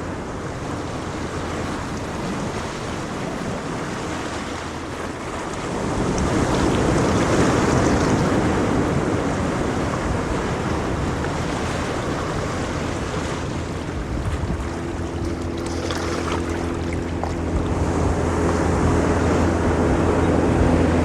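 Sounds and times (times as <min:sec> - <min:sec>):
ocean waves rumbling: 0:00.0 - 0:21.0.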